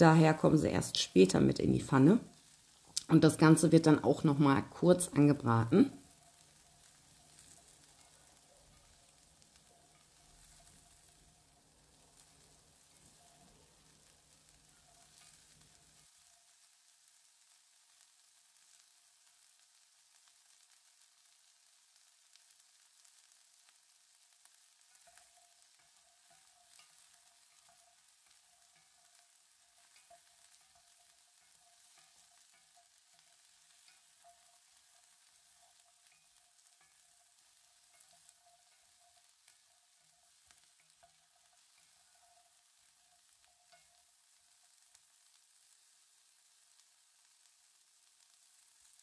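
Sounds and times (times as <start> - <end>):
small crackles: 0.0 - 49.0
vegetables sizzling in a pan: 0.0 - 49.0.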